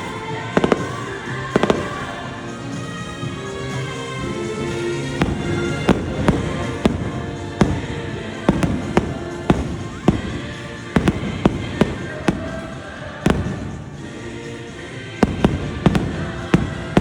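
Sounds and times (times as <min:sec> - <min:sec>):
choir music on loudspeakers: 0:00.0 - 0:17.0
fireworks bangs: 0:00.0 - 0:17.0.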